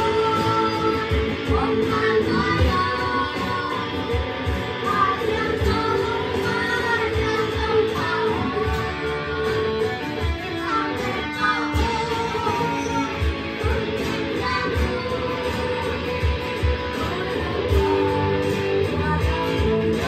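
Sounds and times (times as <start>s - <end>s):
electric guitar with effects: 0.0s - 20.0s
strummed acoustic guitar: 0.0s - 20.0s.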